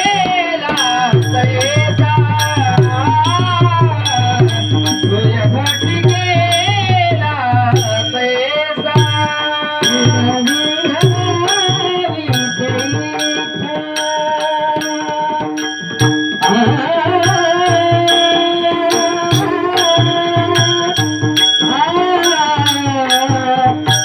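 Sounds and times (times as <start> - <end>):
drum beats: 0.0 - 24.0
held instrumental notes: 0.0 - 24.0
man singing devotional melody: 0.0 - 24.0.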